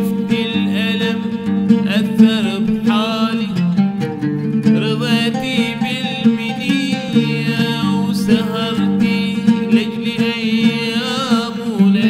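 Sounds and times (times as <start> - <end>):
man singing with vibrato: 0.0 - 12.0
oud playing: 0.0 - 12.0.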